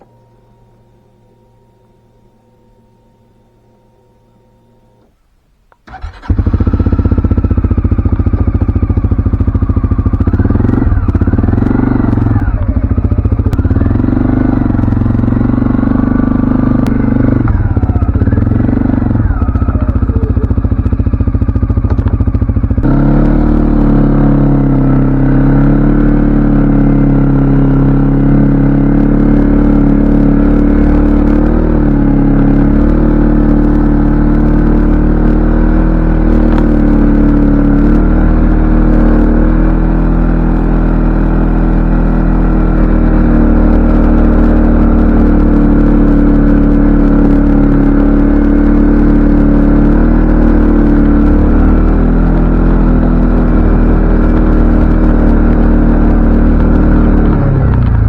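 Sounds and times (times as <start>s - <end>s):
atv engine revving: 5.8s - 58.0s.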